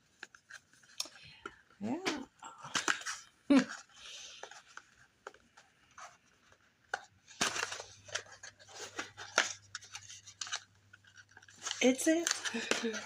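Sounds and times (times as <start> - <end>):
packaging rustling and clicking: 0.1 - 13.0.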